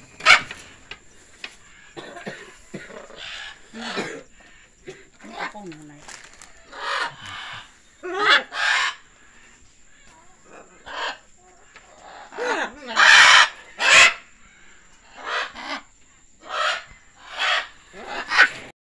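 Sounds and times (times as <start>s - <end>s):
macaws squawking: 0.0s - 2.0s, 2.9s - 18.7s.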